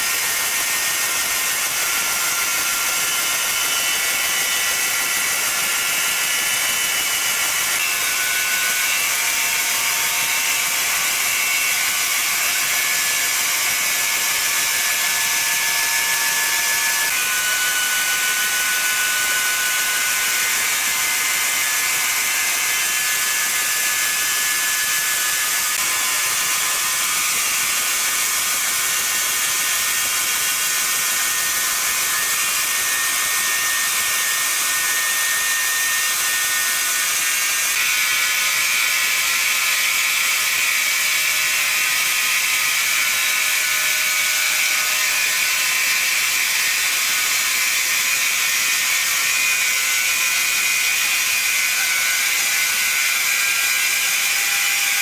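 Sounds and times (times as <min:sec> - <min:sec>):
sawmill saw whining: 0:00.0 - 0:55.0.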